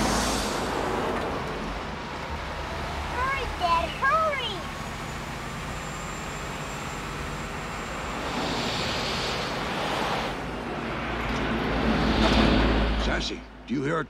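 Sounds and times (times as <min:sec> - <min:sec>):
road vehicle approaching: 0:00.0 - 0:14.0.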